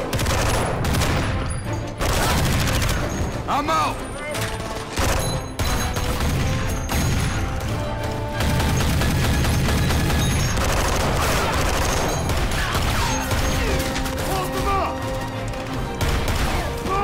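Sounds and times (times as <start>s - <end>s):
rapid gunfire: 0.0s - 1.4s, 2.0s - 3.2s, 4.5s - 17.0s
action film score: 0.0s - 17.0s.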